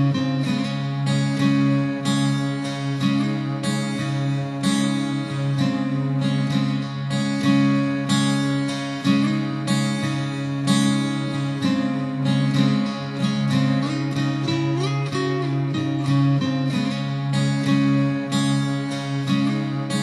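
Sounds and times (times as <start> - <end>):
plucked strings music: 0.0 - 20.0.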